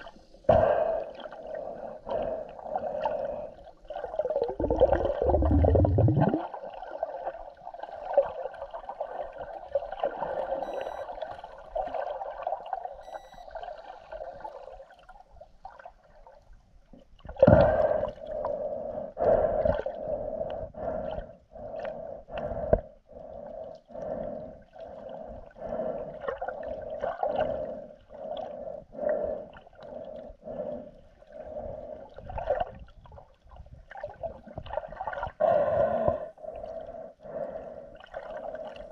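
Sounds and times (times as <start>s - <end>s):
muffled underwater water movement: 0.0s - 38.9s.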